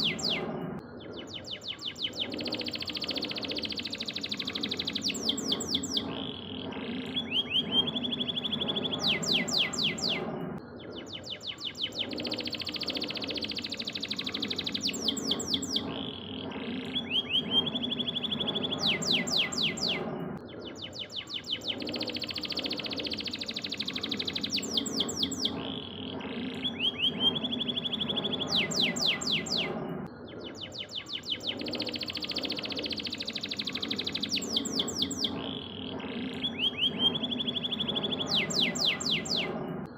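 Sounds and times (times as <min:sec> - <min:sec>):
canary singing trills: 0:00.0 - 0:39.6
steady low hum: 0:00.0 - 0:39.9.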